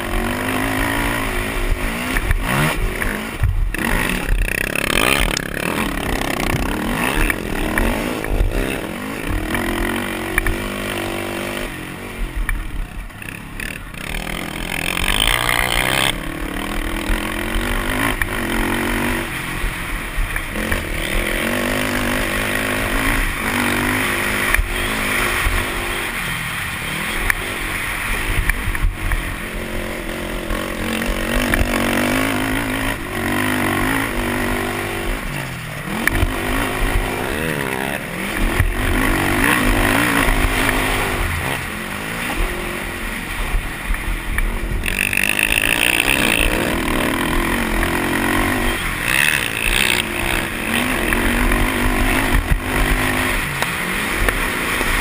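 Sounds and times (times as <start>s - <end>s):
knocks and rattles over rough ground: 0.0s - 55.0s
quad engine revving: 0.0s - 55.0s.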